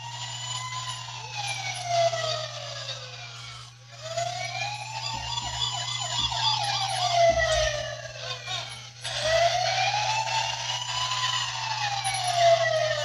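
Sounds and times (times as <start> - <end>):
toy electronic siren wailing: 0.0 - 13.0.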